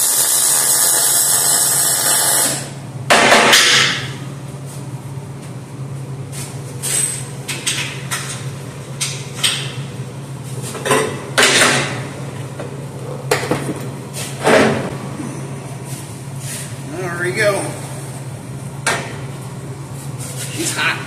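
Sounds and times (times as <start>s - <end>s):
steady low hum: 2.5s - 21.0s.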